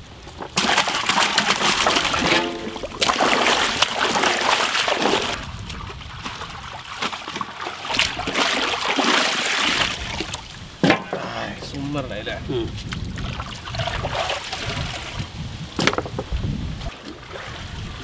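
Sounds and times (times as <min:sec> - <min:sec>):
water sloshing and splashing: 0:00.1 - 0:11.9, 0:12.8 - 0:18.0.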